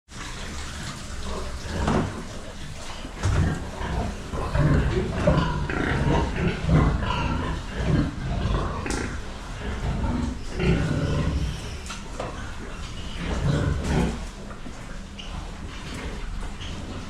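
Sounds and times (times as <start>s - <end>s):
pigs grunting: 0.2s - 17.0s.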